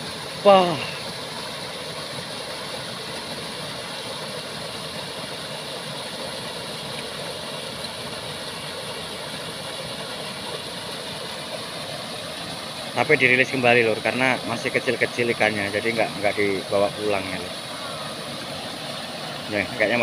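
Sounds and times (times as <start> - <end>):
water rushing over weir: 0.0 - 20.0.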